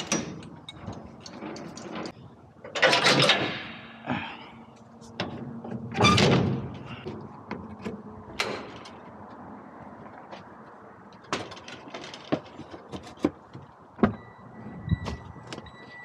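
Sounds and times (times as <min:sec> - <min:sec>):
truck coupling clunks and clatter: 0:00.0 - 0:04.0, 0:04.7 - 0:16.0.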